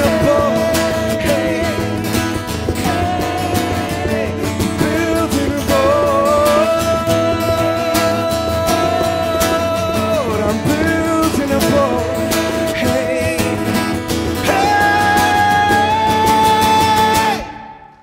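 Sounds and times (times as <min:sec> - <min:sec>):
strummed accompaniment: 0:00.0 - 0:18.0.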